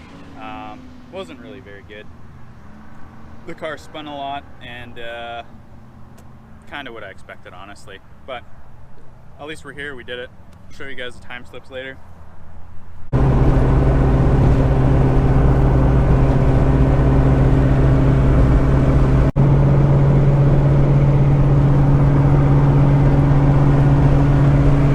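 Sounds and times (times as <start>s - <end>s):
car engine and road drone: 0.0s - 24.9s.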